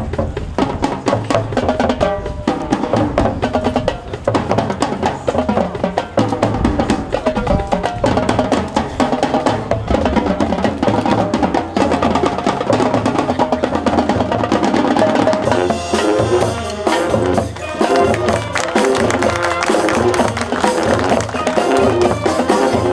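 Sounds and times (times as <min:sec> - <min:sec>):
marching band playing: 0:00.0 - 0:22.9
snare and bass drums: 0:00.0 - 0:22.9.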